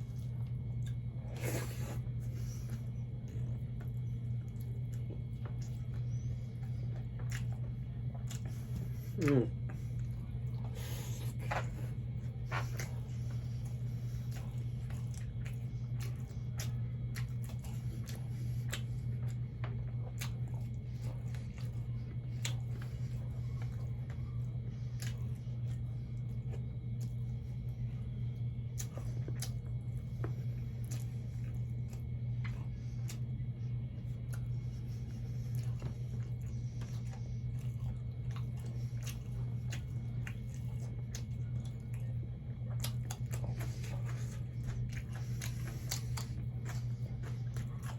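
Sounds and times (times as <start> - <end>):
person chewing wetly: 0.0 - 47.9
steady low hum: 0.0 - 47.9.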